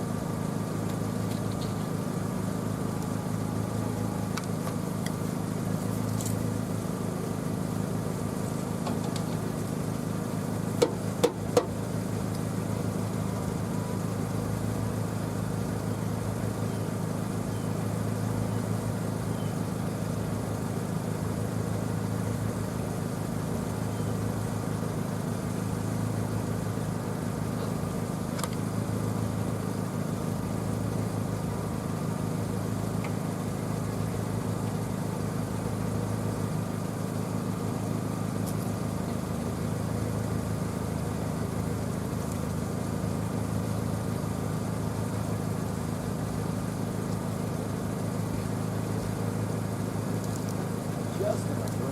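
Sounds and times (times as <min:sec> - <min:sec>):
truck engine idling: 0:00.0 - 0:51.9.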